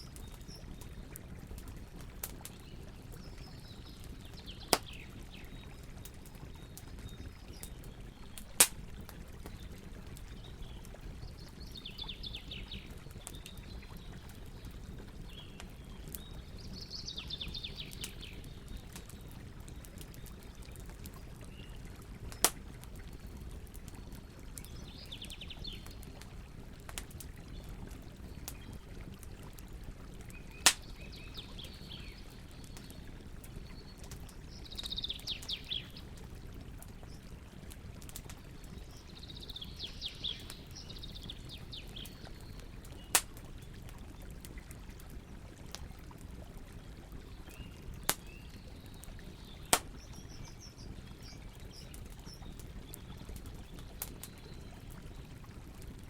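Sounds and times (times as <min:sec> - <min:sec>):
songbirds singing: 0:00.0 - 0:01.3, 0:01.9 - 0:26.6, 0:27.4 - 0:29.1, 0:30.2 - 0:36.2, 0:37.0 - 0:44.3, 0:46.8 - 0:56.0
campfire crackling: 0:00.0 - 0:56.0.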